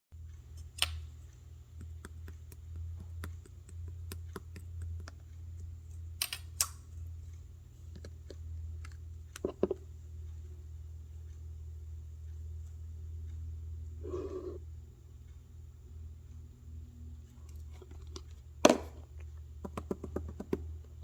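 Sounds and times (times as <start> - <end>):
low hum: 0.2 - 19.0.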